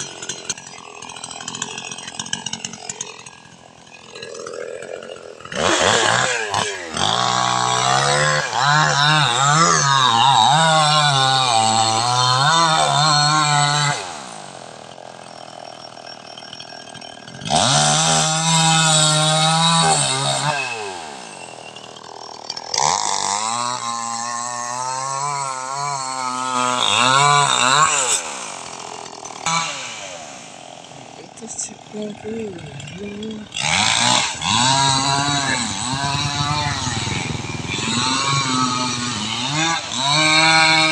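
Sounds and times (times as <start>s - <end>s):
chainsaw cutting wood: 0.0s - 40.9s
chainsaw idling: 0.0s - 40.9s.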